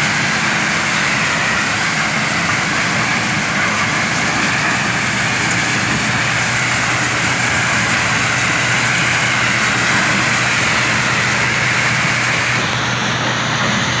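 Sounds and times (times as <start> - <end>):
stone crushing machinery running: 0.0 - 14.0.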